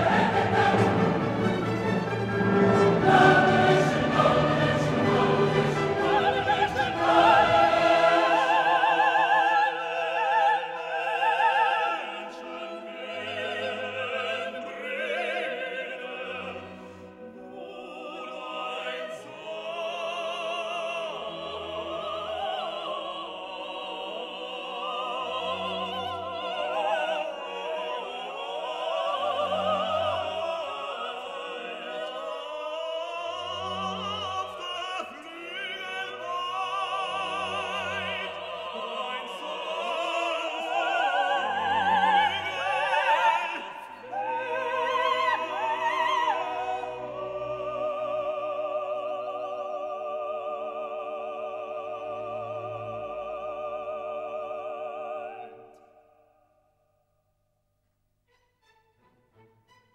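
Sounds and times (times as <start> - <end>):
operatic singing with orchestra: 0.0 - 56.2.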